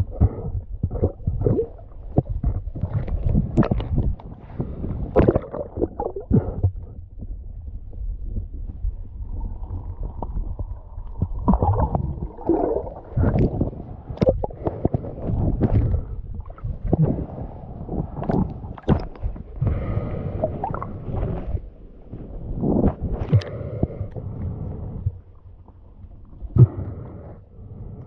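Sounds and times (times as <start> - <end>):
water splashing and gurgling: 0.0 - 7.0, 8.3 - 21.6, 22.5 - 25.0
muffled underwater rumble: 0.0 - 28.0.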